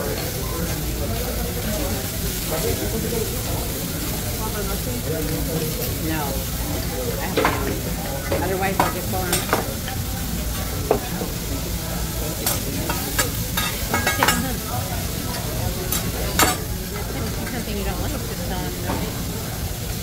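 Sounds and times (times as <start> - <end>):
food sizzling on griddle: 0.0 - 20.0.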